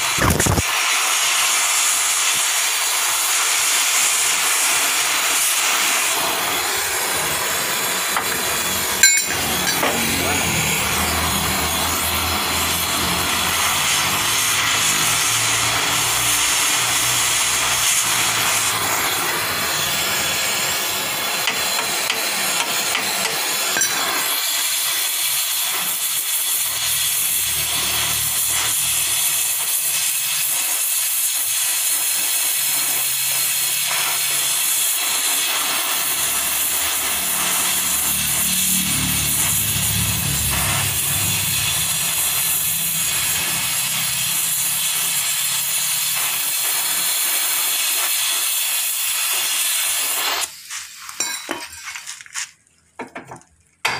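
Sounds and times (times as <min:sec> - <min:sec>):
gas torch hissing: 0:00.0 - 0:51.9.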